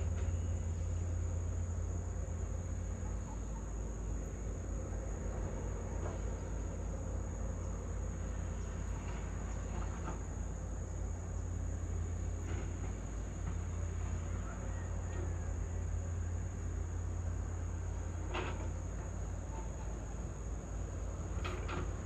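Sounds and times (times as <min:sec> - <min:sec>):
distant excavator engine rumbling: 0:00.0 - 0:22.0.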